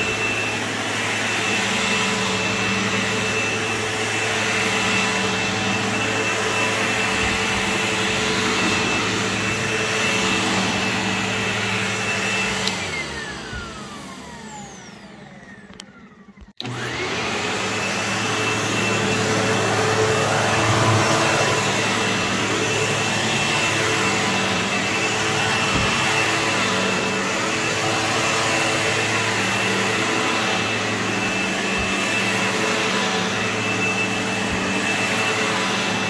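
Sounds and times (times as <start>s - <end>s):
upright vacuum cleaner running: 0.0s - 36.0s.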